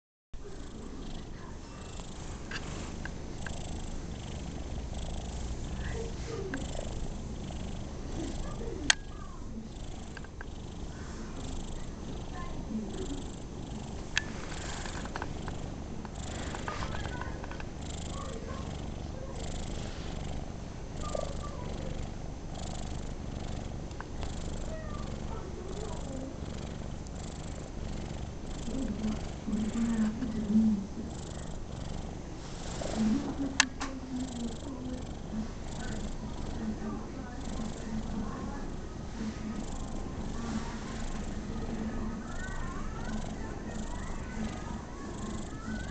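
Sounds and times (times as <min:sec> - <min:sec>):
cat purring: 0:00.4 - 0:45.9.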